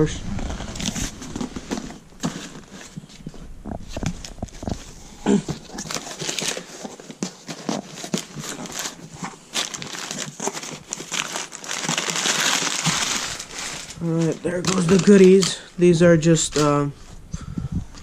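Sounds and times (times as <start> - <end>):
packing material crinkling: 0.0 - 16.8.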